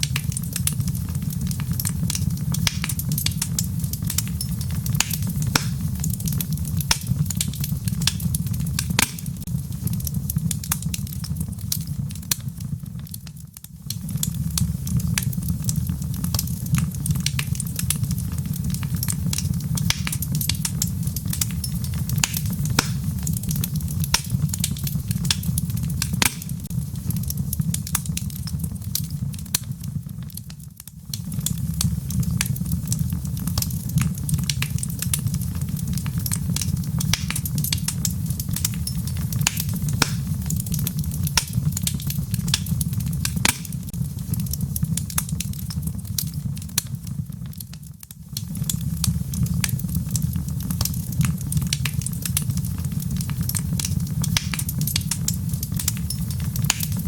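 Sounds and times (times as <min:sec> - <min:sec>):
sharp snaps and pops: 0:00.0 - 0:57.0
wood fire crackling: 0:00.0 - 0:57.0.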